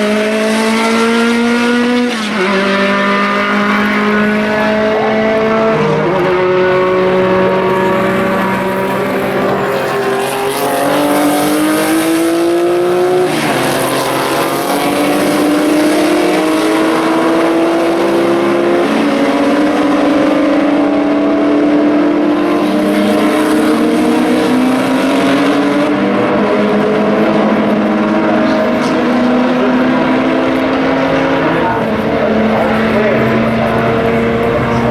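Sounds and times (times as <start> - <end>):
racing car engines accelerating: 0.0 - 34.9.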